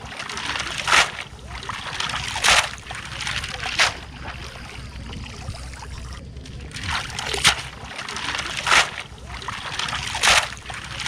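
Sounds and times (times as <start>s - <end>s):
steady low rumble: 0.0s - 11.0s
water splashing and sloshing: 0.0s - 11.0s.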